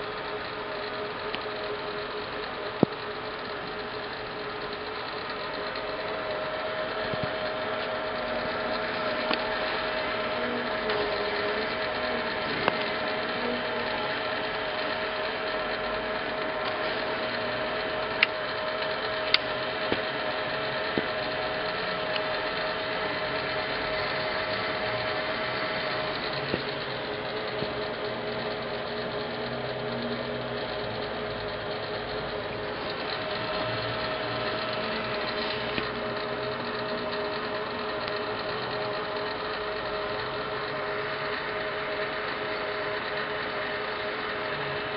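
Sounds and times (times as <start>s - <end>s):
lathe motor hum with whine: 0.0s - 44.9s.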